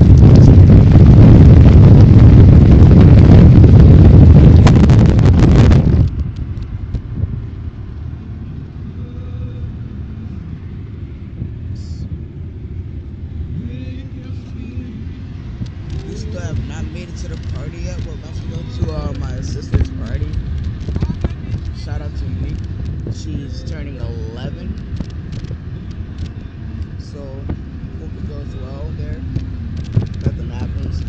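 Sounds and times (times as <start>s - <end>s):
road noise hum: 0.0s - 31.0s
wind buffeting through car window: 0.0s - 31.0s.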